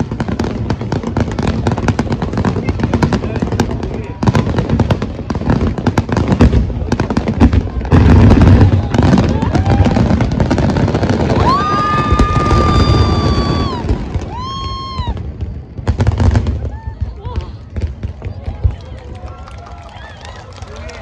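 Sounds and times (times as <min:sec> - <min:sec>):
firework booms and crackling: 0:00.0 - 0:20.9.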